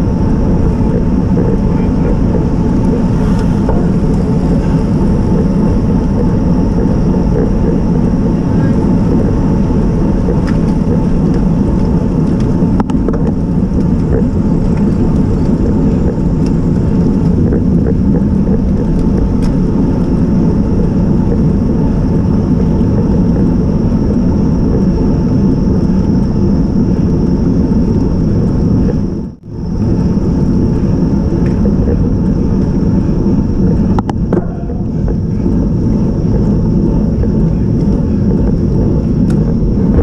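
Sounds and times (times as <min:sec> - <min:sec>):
wind and road noise rumble: 0:00.0 - 0:40.0.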